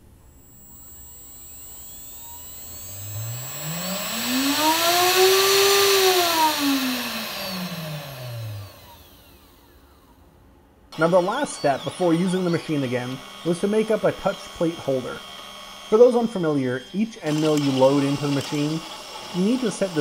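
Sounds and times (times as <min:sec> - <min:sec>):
router spindle whine: 0:00.0 - 0:10.2, 0:10.9 - 0:20.0.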